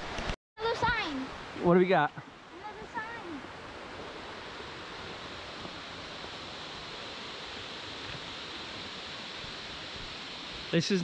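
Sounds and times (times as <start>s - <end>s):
waterfall rushing: 0.6s - 11.0s.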